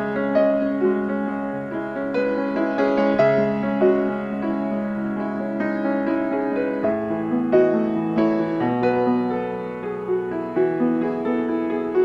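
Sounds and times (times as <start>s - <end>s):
solo piano music: 0.0s - 12.0s.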